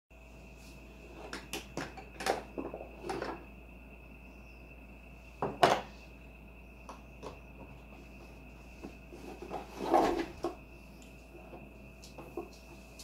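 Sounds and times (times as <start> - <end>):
faint high-pitched tone: 1.8 - 13.0.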